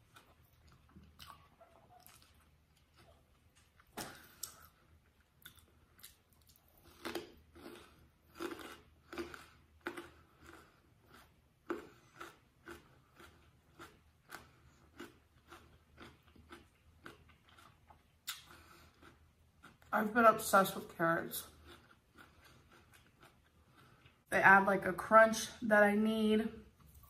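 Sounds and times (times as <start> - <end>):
chewing carrot crunches: 0.0 - 20.0, 21.2 - 24.3.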